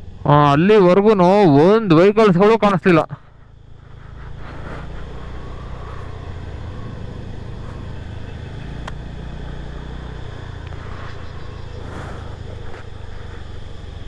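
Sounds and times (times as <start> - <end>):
scooter engine running: 0.0 - 2.6, 3.2 - 14.0.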